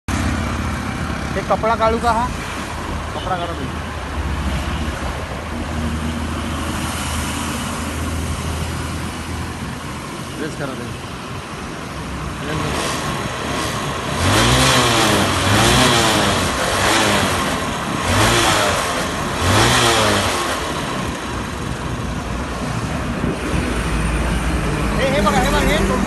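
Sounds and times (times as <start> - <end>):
vehicle engine idling and revving: 0.1 - 26.0.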